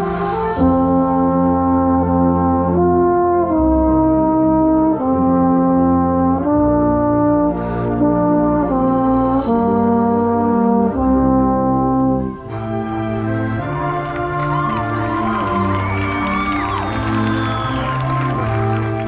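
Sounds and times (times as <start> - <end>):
low brass bass notes: 0.0 - 19.0
marching band brass melody: 0.0 - 19.0
trombone: 0.0 - 19.0.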